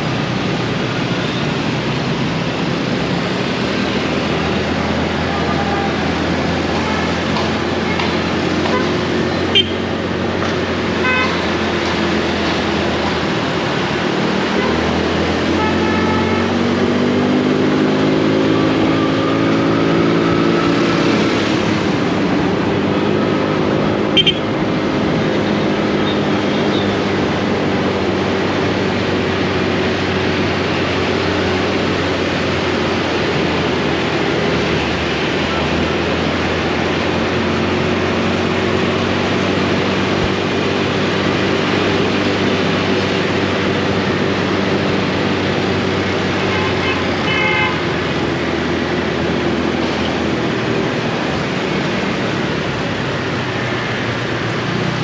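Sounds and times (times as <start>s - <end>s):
city traffic noise: 0.0s - 55.0s.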